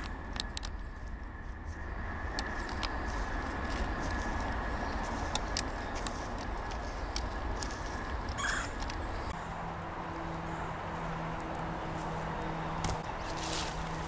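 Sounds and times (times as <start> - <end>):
low wind-like rumble: 0.0 - 14.0.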